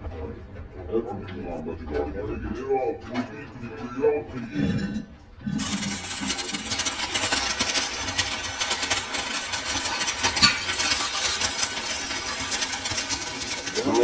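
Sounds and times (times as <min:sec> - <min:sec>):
machine running: 0:00.0 - 0:14.0.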